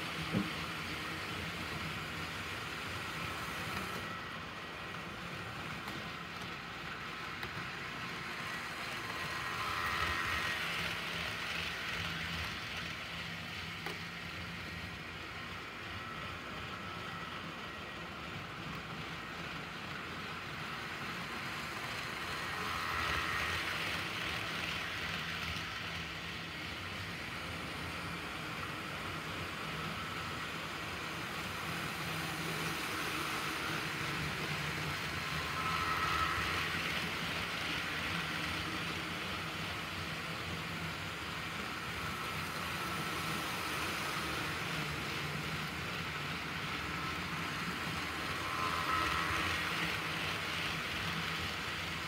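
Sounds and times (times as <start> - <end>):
faint motor whine: 0.0 - 52.0
model train whirring: 0.0 - 52.0.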